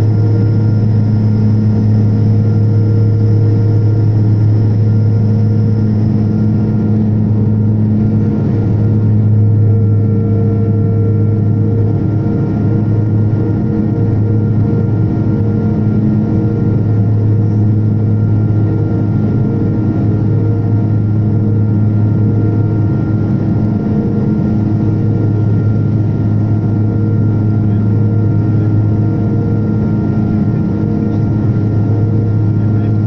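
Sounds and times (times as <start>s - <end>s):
propeller engine drone: 0.0s - 33.0s.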